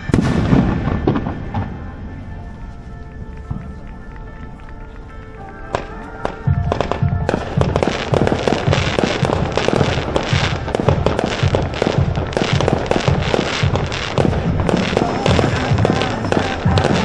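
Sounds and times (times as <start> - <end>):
deep fireworks thumps: 0.0 - 17.0
fireworks bangs and crackles: 0.0 - 17.0.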